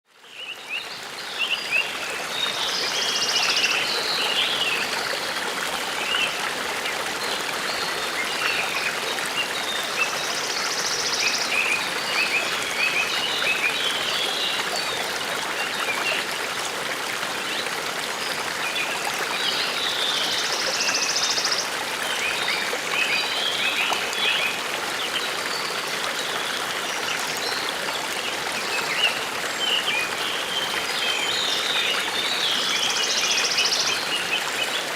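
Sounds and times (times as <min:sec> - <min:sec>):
brook babbling: 0:00.1 - 0:34.9.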